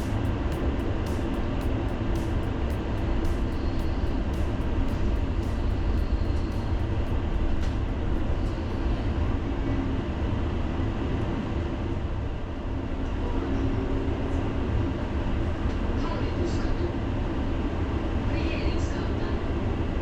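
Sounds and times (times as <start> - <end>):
faint steady hum: 0.0 - 20.0
tram rumbling on rails: 0.0 - 20.0.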